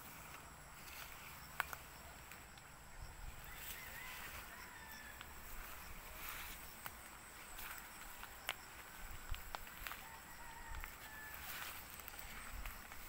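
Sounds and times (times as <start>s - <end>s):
footsteps through undergrowth: 0.0s - 13.0s.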